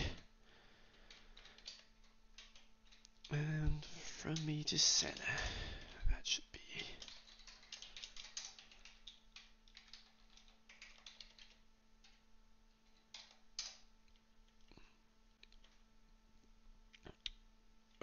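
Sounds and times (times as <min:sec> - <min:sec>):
faint keyboard typing: 0:00.0 - 0:18.0.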